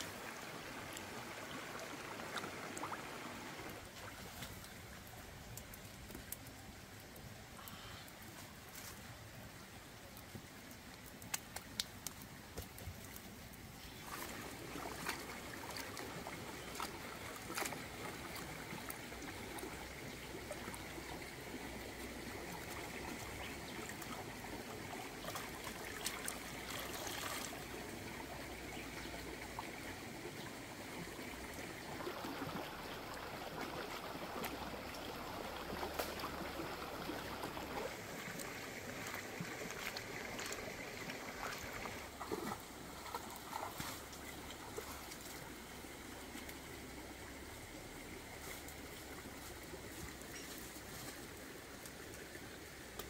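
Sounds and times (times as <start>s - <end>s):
stream running over rocks: 0.0s - 53.0s
water splashes and drips: 0.0s - 53.0s.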